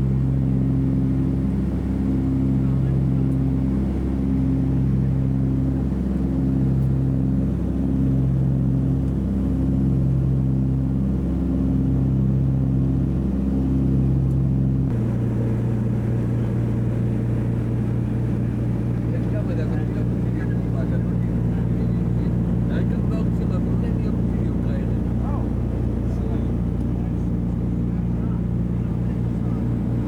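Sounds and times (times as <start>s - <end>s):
radial engines droning in cabin: 0.0s - 30.0s.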